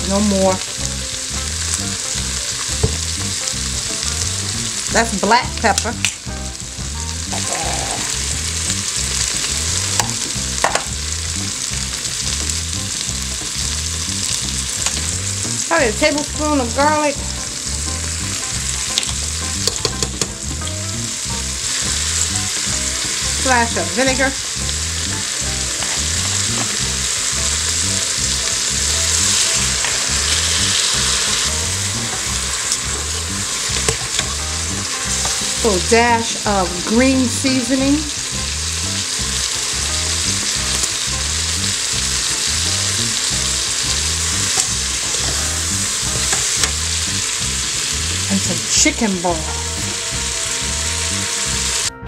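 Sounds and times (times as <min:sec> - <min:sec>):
food sizzling in oil: 0:00.0 - 0:52.0.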